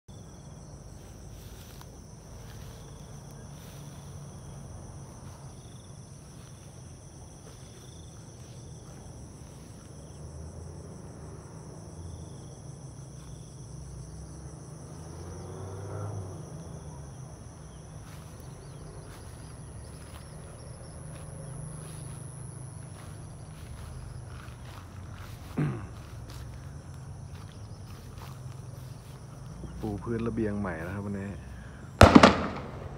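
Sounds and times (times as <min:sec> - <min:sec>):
insects trilling: 0:00.1 - 0:32.9.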